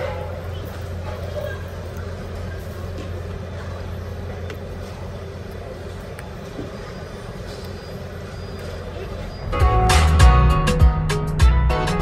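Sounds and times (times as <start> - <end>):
indoor store hum and hiss: 0.0 - 12.0.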